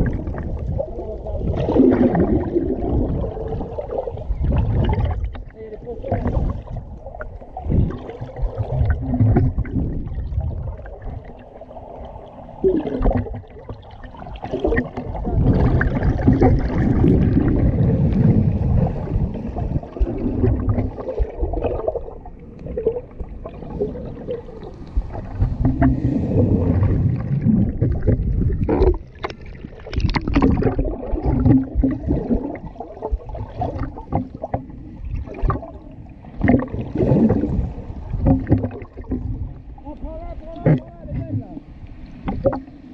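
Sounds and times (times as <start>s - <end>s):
muffled underwater surf surging: 0.0s - 42.9s.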